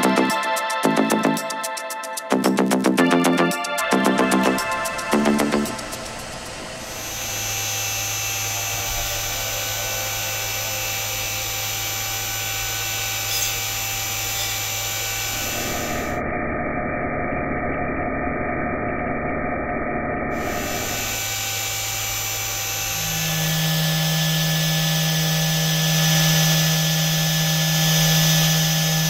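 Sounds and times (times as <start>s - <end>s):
machine hum with high whines: 2.3s - 29.0s.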